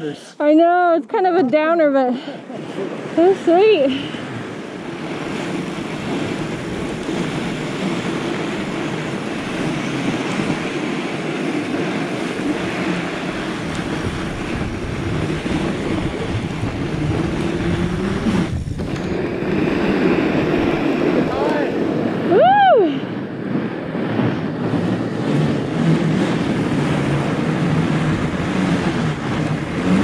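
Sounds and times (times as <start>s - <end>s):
bike tires rolling on snow: 2.6s - 30.0s
wind on camera microphone: 2.6s - 30.0s.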